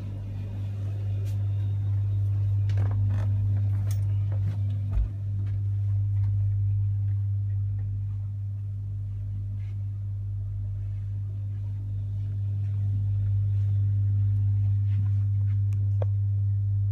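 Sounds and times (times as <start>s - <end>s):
low machinery hum: 0.0s - 16.9s.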